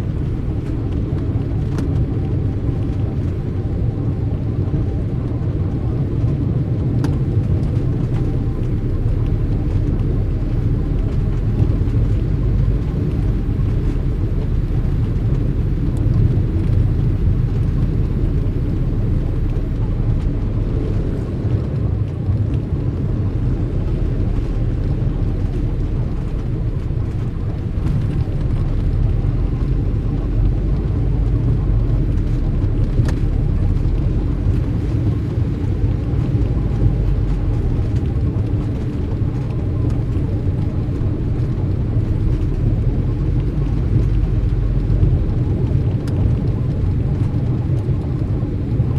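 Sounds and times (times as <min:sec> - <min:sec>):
car traffic rumble: 0:00.0 - 0:48.9.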